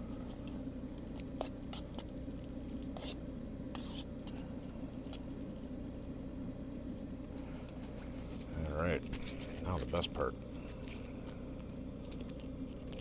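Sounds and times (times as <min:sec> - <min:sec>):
air heater humming: 0:00.0 - 0:13.0.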